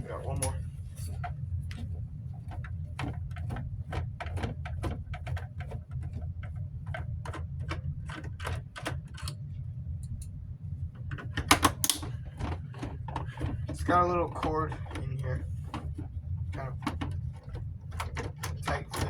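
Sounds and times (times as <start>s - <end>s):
steady low hum: 0.0s - 19.0s
plastic clatter: 0.4s - 9.4s, 11.1s - 19.0s.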